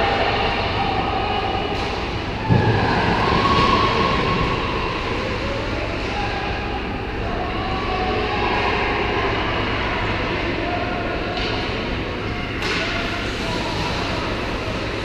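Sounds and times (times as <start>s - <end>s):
rumbling din of ice rink: 0.0s - 15.0s.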